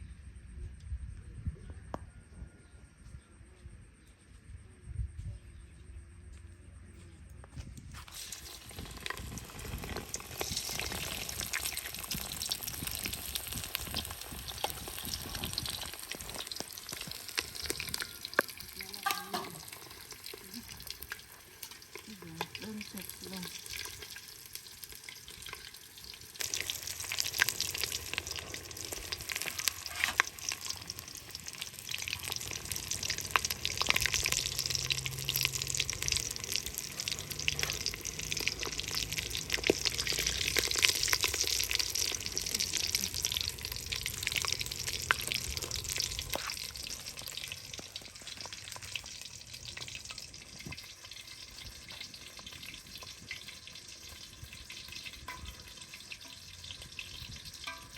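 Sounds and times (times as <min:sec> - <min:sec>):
food sizzling in hot oil: 0:08.0 - 0:57.9.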